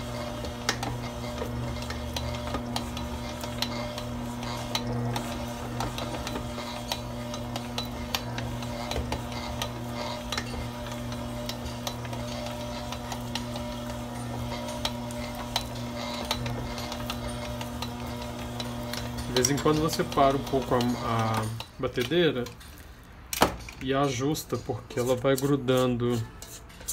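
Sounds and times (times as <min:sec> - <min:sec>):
stand mixer motor running: 0:00.0 - 0:21.6.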